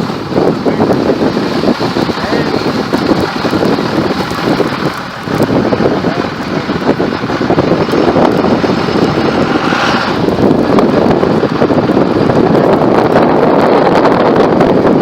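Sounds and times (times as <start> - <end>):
moving truck noise: 0.0 - 15.0
wind buffeting microphone: 0.0 - 15.0.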